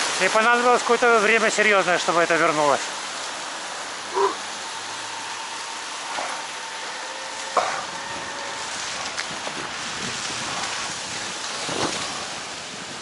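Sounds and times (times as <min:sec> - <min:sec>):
rain hissing: 0:00.0 - 0:13.0
tyres rolling on wet asphalt: 0:00.0 - 0:13.0.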